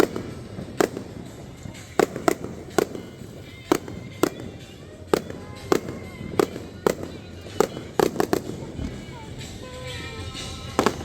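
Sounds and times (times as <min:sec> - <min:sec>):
firework shells bursting: 0:00.0 - 0:11.0
fireworks hissing: 0:00.0 - 0:11.0.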